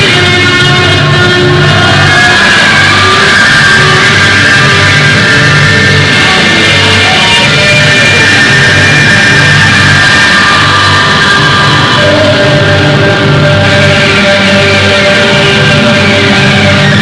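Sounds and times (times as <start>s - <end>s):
rock music with distorted guitar: 0.0s - 17.0s.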